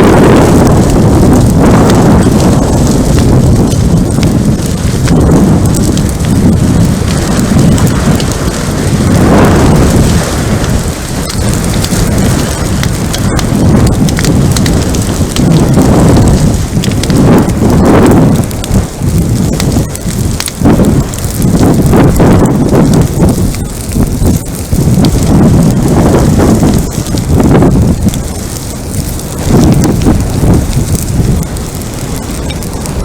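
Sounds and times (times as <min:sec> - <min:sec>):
fire crackling and popping: 0:00.0 - 0:33.0
wildfire roaring: 0:00.0 - 0:33.0.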